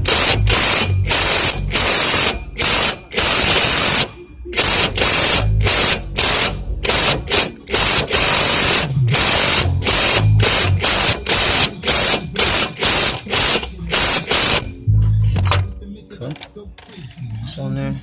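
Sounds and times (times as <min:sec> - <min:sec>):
impact gun bursts: 0:00.0 - 0:14.8.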